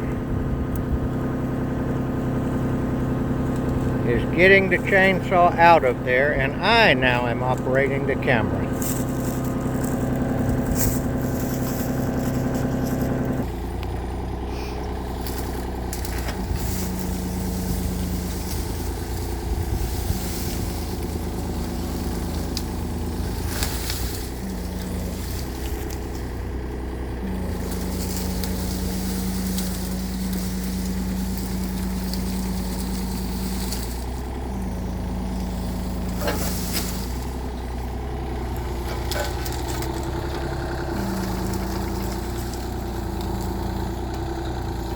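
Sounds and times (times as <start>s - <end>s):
steady low hum: 0.0s - 44.1s
excavator diesel engine running: 0.0s - 44.9s.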